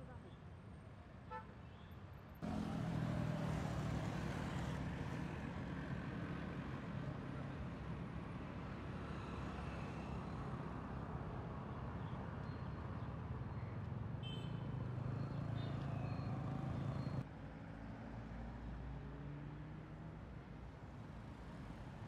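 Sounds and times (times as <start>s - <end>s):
vehicle engine and road rumble: 1.8s - 22.0s.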